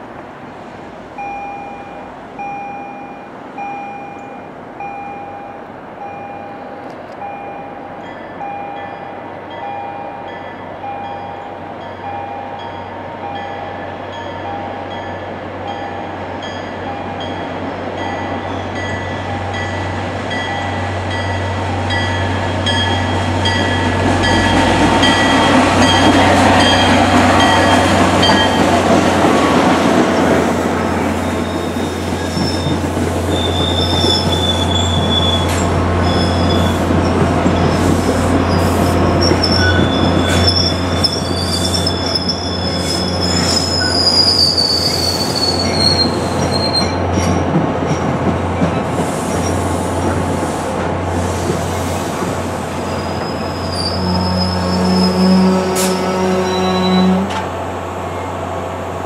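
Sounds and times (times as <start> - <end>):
diesel train passing: 0.0 - 59.0.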